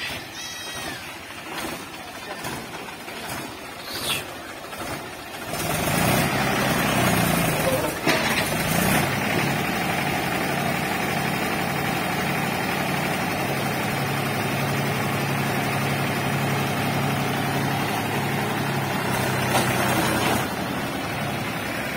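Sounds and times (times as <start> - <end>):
diesel tractor engine running: 0.0 - 21.9.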